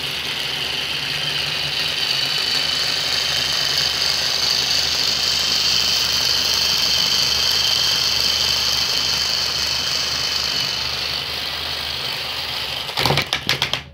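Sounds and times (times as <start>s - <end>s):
small electric motor whining: 0.0s - 13.2s.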